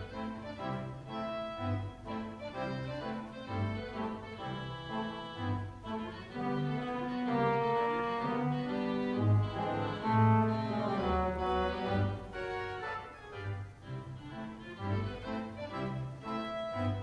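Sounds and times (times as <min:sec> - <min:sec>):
theatre pipe organ playing: 0:00.0 - 0:17.0.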